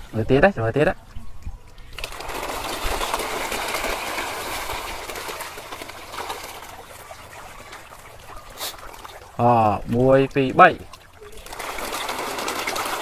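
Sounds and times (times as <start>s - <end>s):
fish splashing at water surface: 1.7s - 10.1s, 10.8s - 13.0s.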